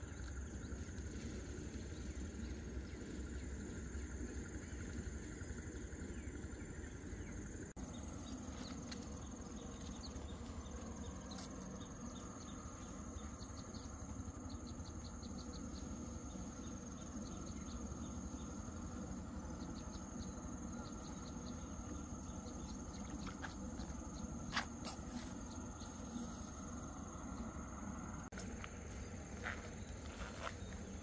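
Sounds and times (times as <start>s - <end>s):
insects chirping: 0.0s - 31.0s
low background rumble: 0.0s - 31.0s.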